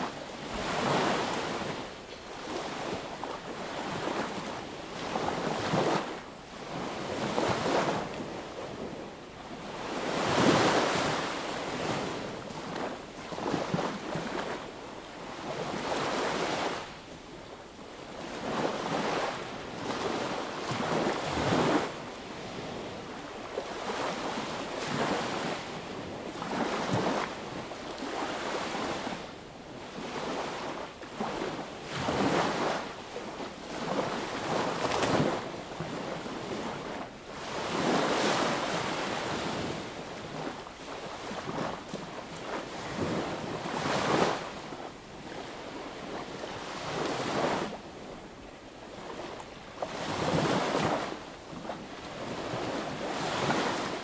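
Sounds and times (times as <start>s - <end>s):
sea waves breaking on beach: 0.0s - 8.9s, 9.6s - 14.6s, 18.1s - 47.8s, 48.8s - 54.0s.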